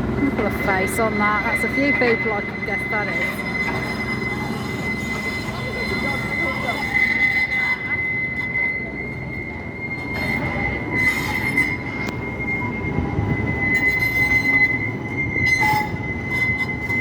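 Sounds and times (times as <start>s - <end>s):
city street noise rumble: 0.0s - 17.0s
tram wheels squealing: 0.0s - 17.0s.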